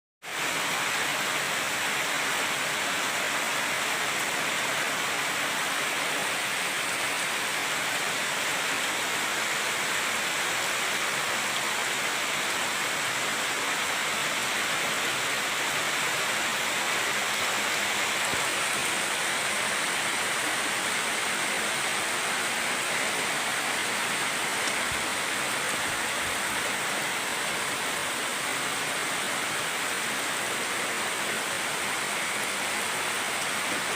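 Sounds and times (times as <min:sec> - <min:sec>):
heavy rain pouring: 0:00.2 - 0:33.9.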